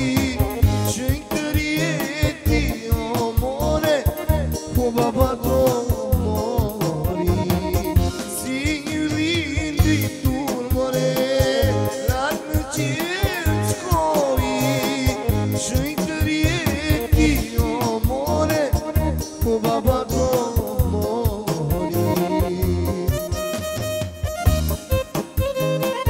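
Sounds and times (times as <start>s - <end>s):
drum beat: 0.0s - 26.0s
keyboard accompaniment: 0.0s - 26.0s.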